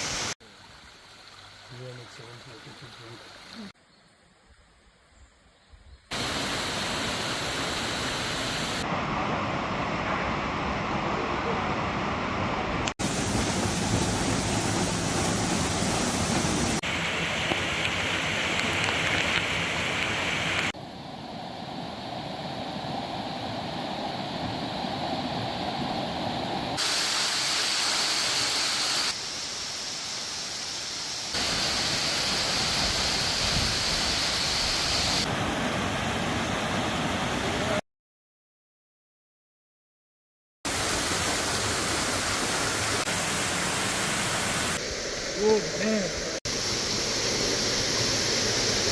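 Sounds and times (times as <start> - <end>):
rushing water: 0.0 - 3.8, 6.1 - 37.8, 40.7 - 48.9.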